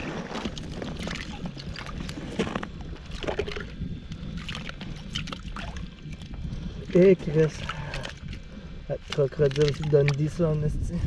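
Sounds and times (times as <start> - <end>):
water and slush sloshing: 0.0 - 11.0.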